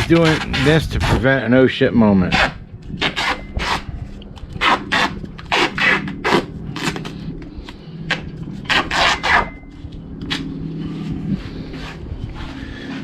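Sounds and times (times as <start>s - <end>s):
rasping scrapes and rubs: 0.0s - 1.3s, 2.3s - 13.0s
low hum: 0.0s - 13.0s.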